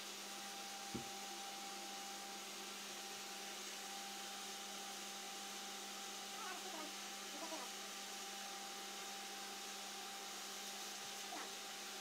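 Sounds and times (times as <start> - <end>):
vacuum whine: 0.0 - 12.0.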